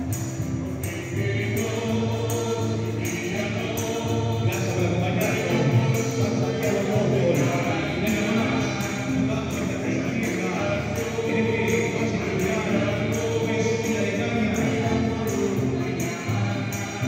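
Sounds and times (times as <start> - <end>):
guitar: 0.0 - 17.0
steady percussive beat: 0.0 - 17.0
voices singing in chorus: 0.0 - 17.0.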